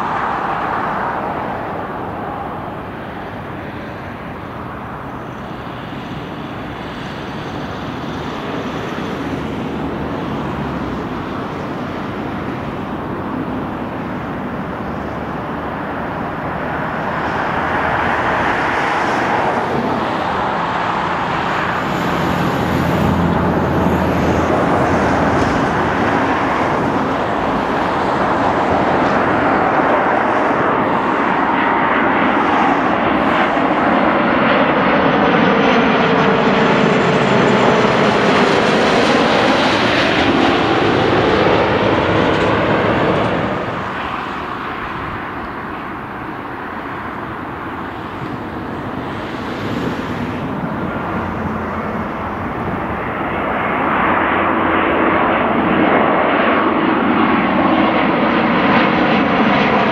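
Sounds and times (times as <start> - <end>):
faint high engine whine: 0.0 - 59.9
jet rumble: 0.0 - 59.9.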